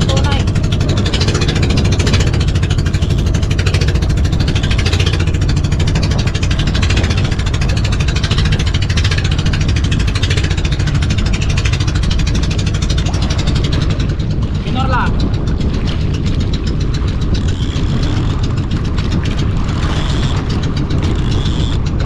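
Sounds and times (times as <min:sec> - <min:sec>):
boat engine chugging: 0:00.0 - 0:22.0.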